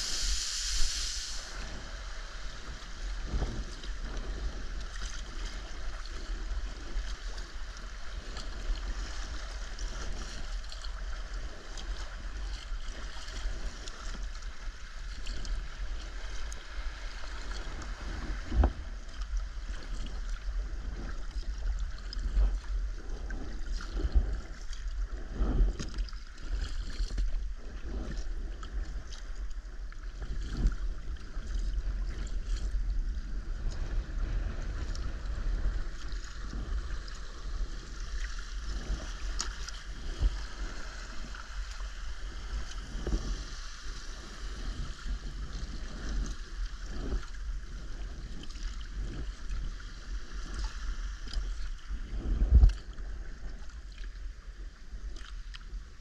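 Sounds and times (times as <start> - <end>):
water splashing against hull: 0.0 - 56.0
wind rumble on microphone: 0.0 - 56.0.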